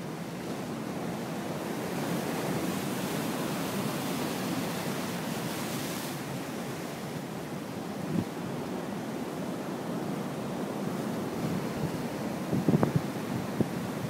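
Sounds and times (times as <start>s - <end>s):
waves crashing on rocks: 0.0s - 14.0s.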